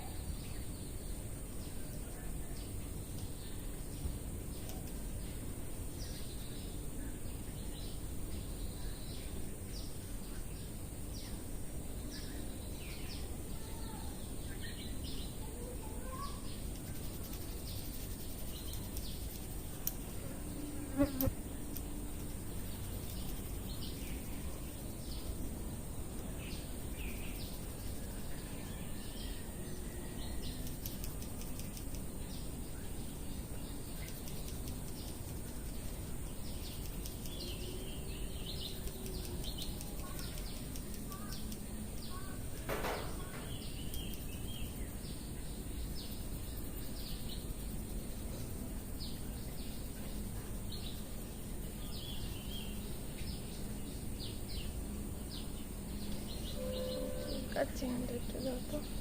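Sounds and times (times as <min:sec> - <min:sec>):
small birds chirping: 0:00.0 - 0:59.0
steady background hiss: 0:00.0 - 0:59.0.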